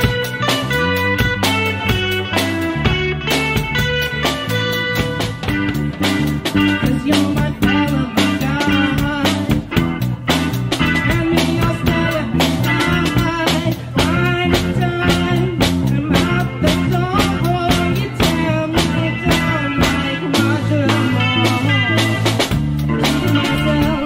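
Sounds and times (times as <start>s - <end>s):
drum kit beat: 0.0s - 24.0s
electric bass: 0.0s - 24.0s
electric guitar: 0.0s - 24.0s.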